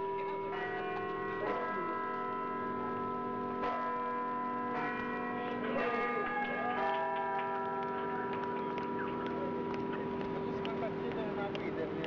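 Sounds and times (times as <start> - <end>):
bell-like chimes ringing: 0.0 - 11.0.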